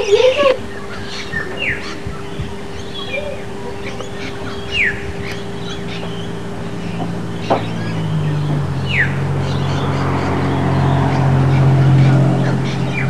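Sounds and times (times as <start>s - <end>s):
birds chirping and calling: 0.0s - 13.0s
vehicle engine humming: 0.0s - 13.0s.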